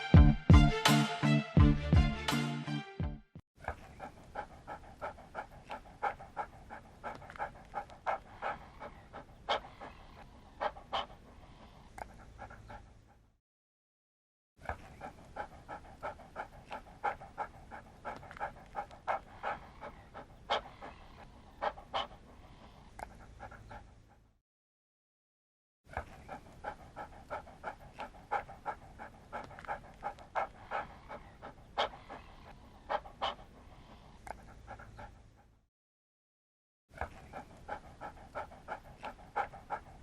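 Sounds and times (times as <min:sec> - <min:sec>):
dog panting: 0:03.6 - 0:13.3, 0:14.6 - 0:24.3, 0:25.9 - 0:35.6, 0:37.0 - 0:40.0.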